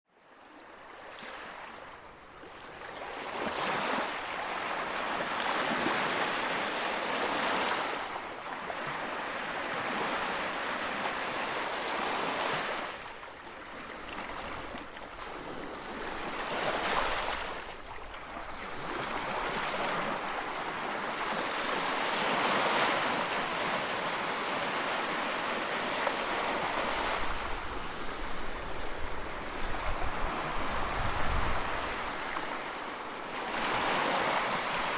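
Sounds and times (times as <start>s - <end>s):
ocean surf breaking on beach: 3.0s - 34.9s.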